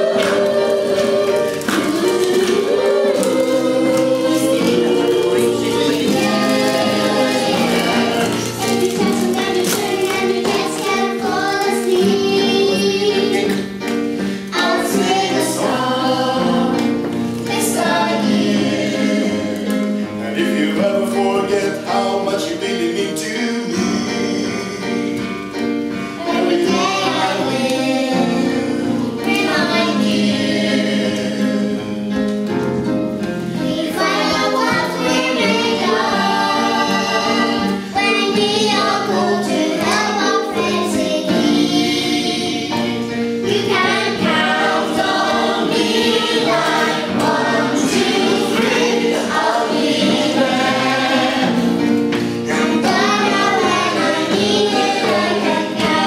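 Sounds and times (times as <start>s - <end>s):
children and adults singing: 0.0s - 56.0s
instrumental accompaniment: 0.0s - 56.0s.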